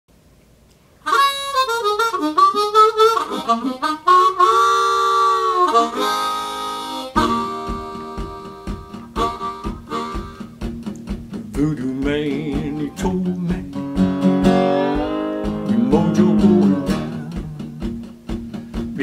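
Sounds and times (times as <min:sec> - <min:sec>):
acoustic guitar strumming: 0:01.0 - 0:19.0
blues harmonica: 0:01.0 - 0:19.0.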